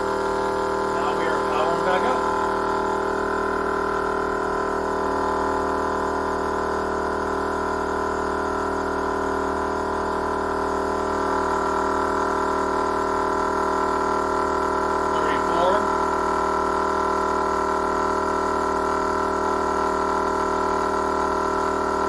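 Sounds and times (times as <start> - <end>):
air compressor humming: 0.0 - 22.0.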